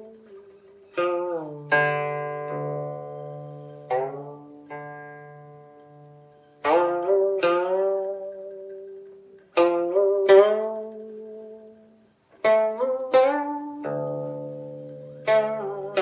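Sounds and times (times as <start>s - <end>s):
plucked zither notes: 0.0s - 16.0s.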